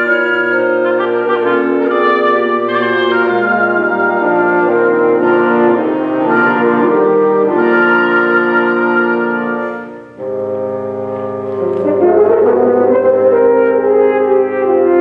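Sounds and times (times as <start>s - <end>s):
wind ensemble playing chords: 0.0s - 15.0s.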